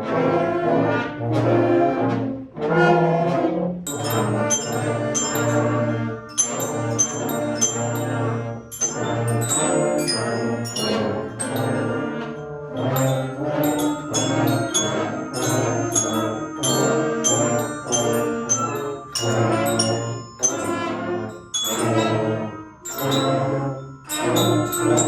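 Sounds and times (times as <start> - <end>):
brass sustained chords: 0.0 - 25.0
bright bell-like notes: 3.9 - 25.0.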